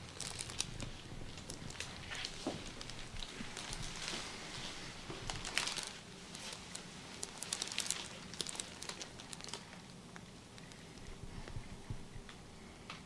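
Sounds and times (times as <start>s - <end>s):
rustling and crinkling on table: 0.0s - 11.7s.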